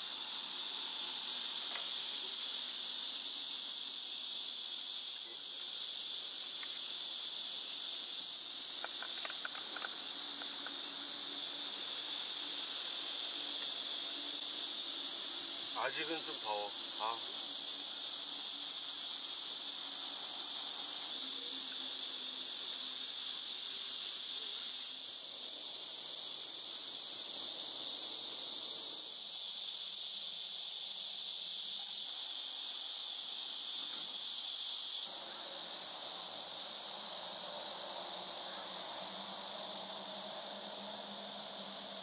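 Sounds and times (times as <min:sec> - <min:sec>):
shrill insect chorus: 0:00.0 - 0:42.0.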